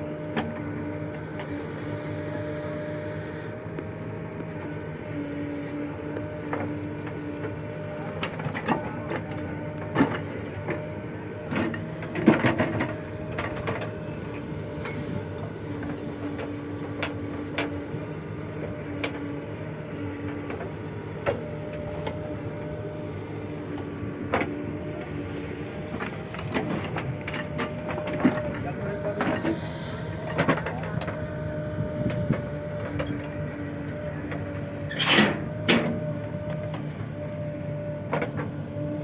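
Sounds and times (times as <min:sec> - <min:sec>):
backhoe diesel engine running: 0:00.0 - 0:39.0.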